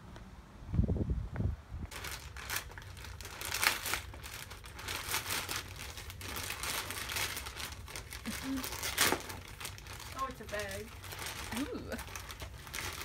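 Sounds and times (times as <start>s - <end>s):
plastic packaging crinkling: 1.9s - 13.0s.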